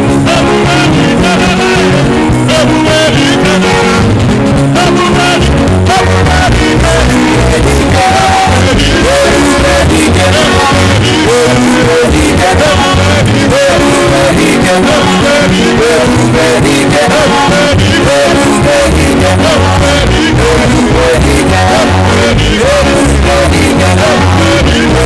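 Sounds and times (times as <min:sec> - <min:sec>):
person singing over a beat: 0:00.0 - 0:25.0.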